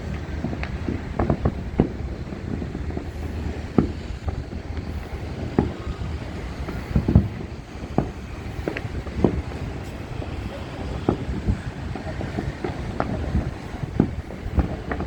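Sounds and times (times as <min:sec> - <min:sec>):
fireworks sharp bangs: 0:00.0 - 0:15.0
low rumble of distant explosions: 0:00.0 - 0:15.0.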